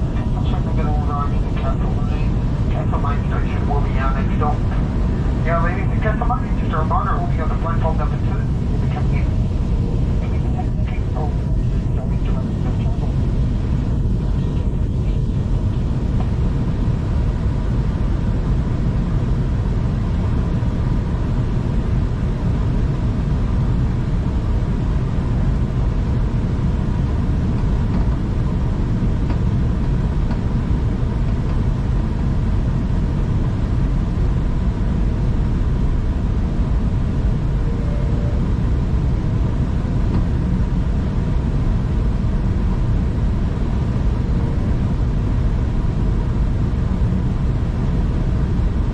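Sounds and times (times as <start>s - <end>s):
faint steady whine: 0.0s - 48.9s
train rumble inside carriage: 0.0s - 48.9s.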